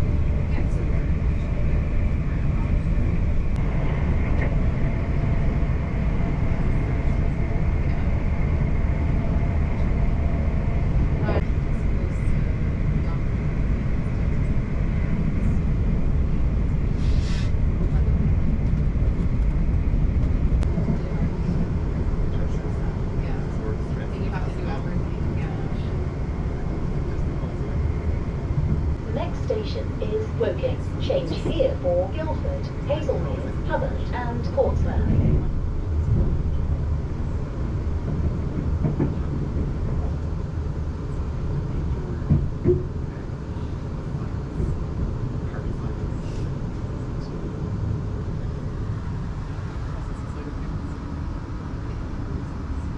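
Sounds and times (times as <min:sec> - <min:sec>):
train rumbling on track: 0:00.0 - 0:52.9.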